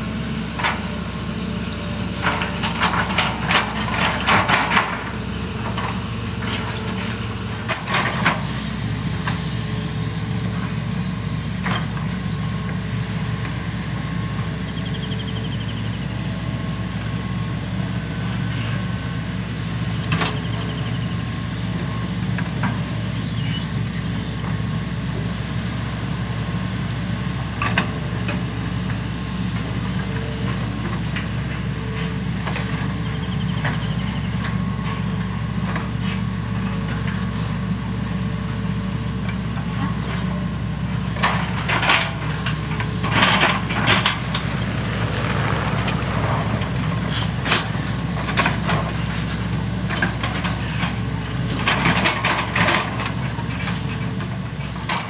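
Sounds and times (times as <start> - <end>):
excavator diesel engines droning: 0.0 - 55.0.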